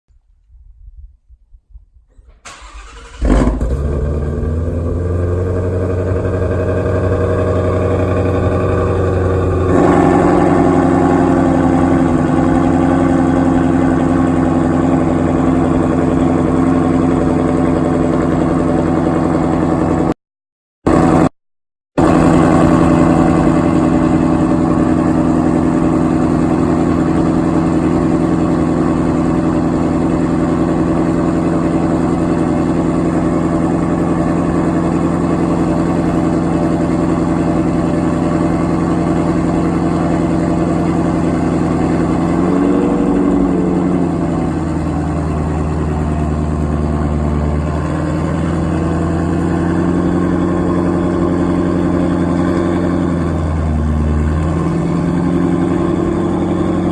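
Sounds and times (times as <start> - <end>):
car engine idling: 2.5 - 20.1, 22.0 - 56.9.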